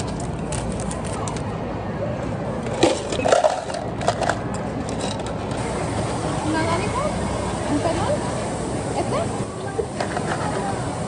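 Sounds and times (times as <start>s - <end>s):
steady machine hum: 1.5s - 11.0s.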